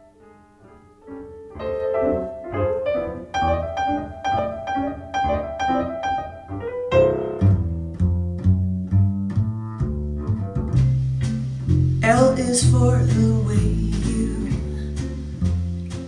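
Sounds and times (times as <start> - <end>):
jazz piano chords: 0.0 - 16.0
double bass: 1.5 - 16.0.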